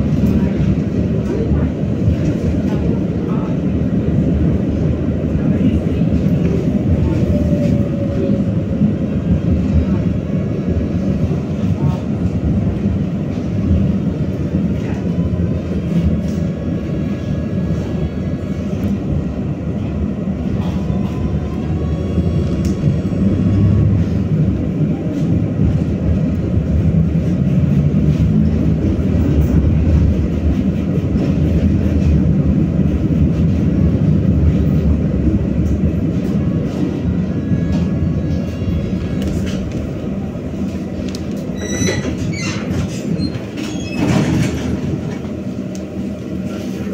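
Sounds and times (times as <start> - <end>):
tram wheels rumbling on rails: 0.0 - 46.9.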